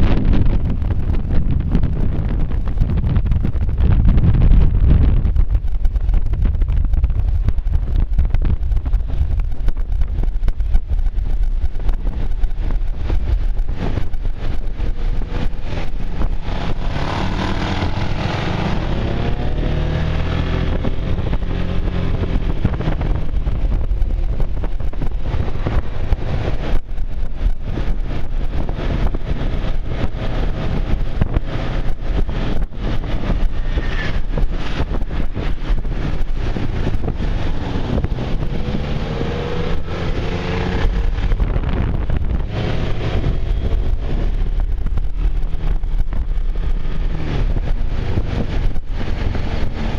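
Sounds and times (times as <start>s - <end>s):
scooter engine and road noise: 0.0s - 49.9s
wind buffeting microphone: 0.0s - 49.9s.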